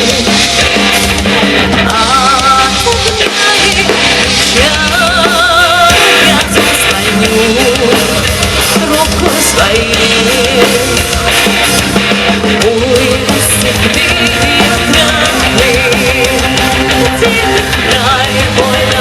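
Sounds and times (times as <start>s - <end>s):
folk-metal band playing: 0.0s - 19.0s.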